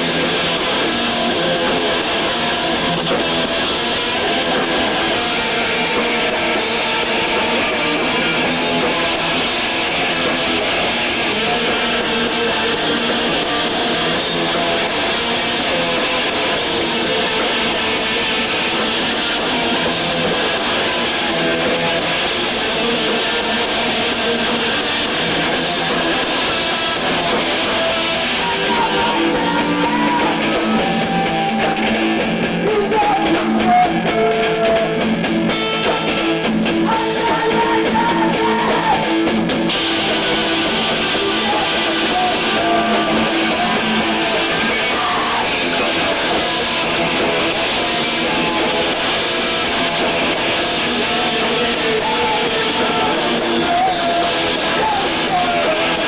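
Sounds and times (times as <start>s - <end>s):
person singing: 0.0s - 56.0s
rock music with electric guitar: 0.0s - 56.0s.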